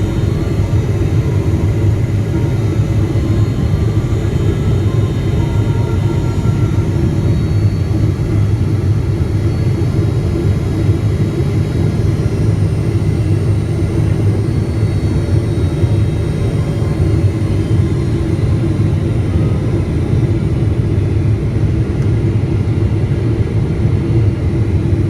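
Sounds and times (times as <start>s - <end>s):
jet airliner in flight: 0.0s - 25.0s.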